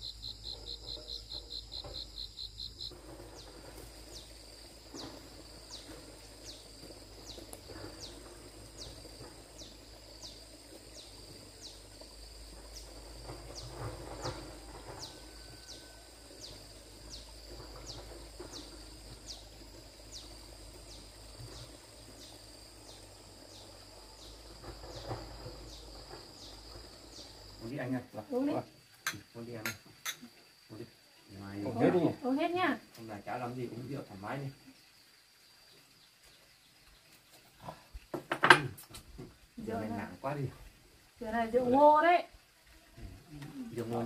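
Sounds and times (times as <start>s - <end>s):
insects trilling and chirping: 0.0s - 44.0s.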